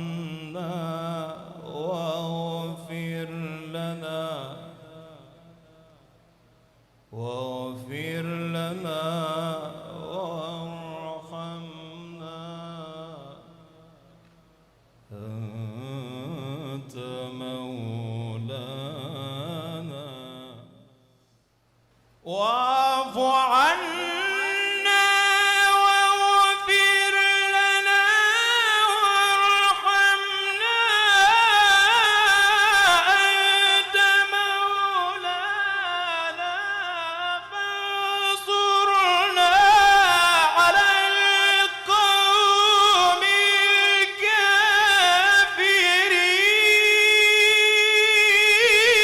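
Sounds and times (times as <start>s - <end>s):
person reciting melodically: 0.0s - 5.4s, 7.1s - 13.8s, 15.1s - 20.8s, 22.2s - 49.0s.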